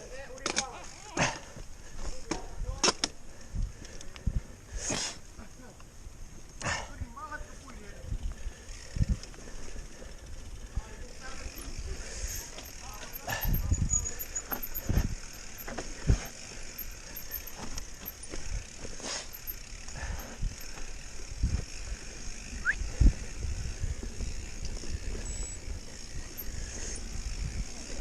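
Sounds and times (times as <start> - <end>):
bike knocking and rattling: 0.0 - 4.5, 8.2 - 28.0.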